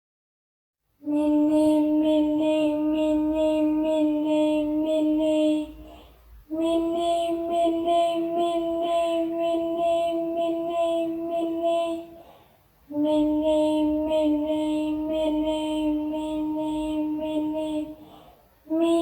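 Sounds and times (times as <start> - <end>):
high voice chanting: 1.0 - 19.0.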